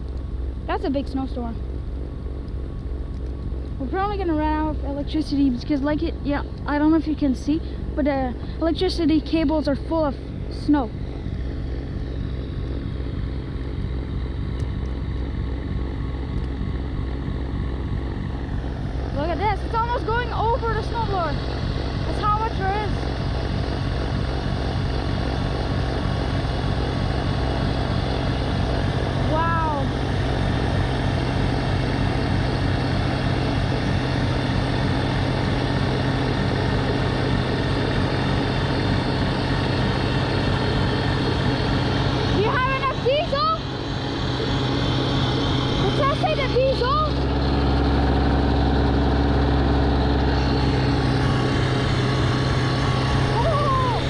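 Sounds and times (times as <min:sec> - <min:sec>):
tractor with snowblower running: 0:00.0 - 0:54.0.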